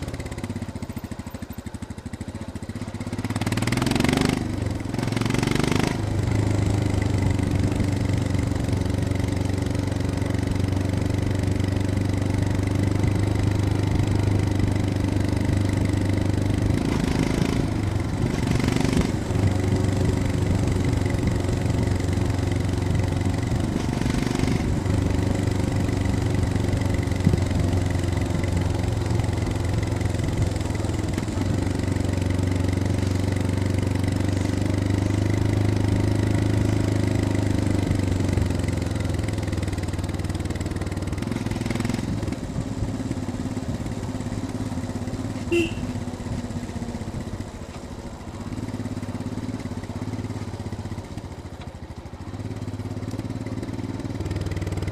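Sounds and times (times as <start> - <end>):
motorcycle engine and exhaust running: 0.0 - 54.9.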